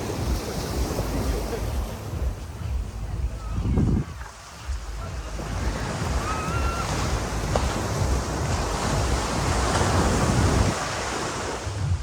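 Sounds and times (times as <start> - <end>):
surf washing up beach: 0.0 - 12.0
wind buffeting microphone: 0.0 - 12.0.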